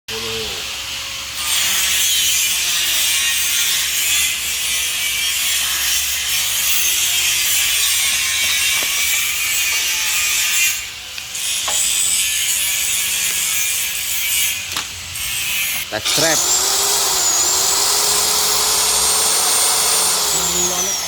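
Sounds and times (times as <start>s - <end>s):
electric tile saw high hiss: 0.1s - 21.0s.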